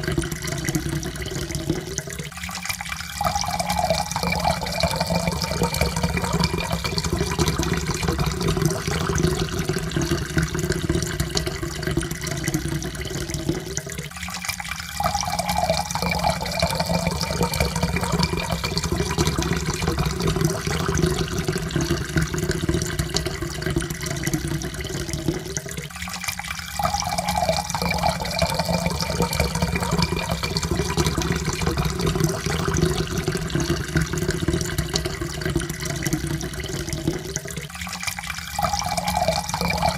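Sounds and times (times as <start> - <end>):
water pouring into a cup: 0.0 - 39.9.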